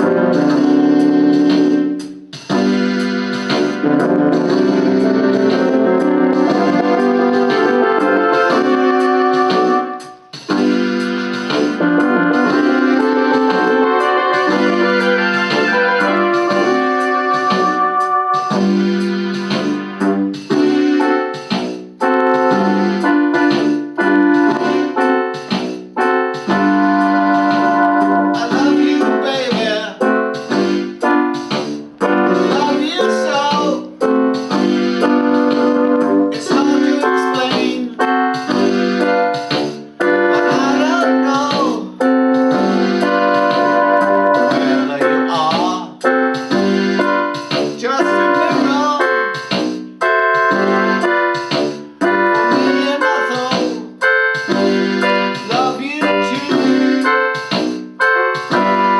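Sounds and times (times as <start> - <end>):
electronic keyboard piano chords: 0.0 - 58.9.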